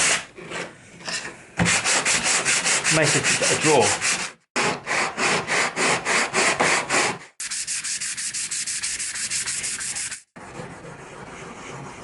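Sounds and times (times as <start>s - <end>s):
sandpaper sanding wood: 1.6s - 12.0s.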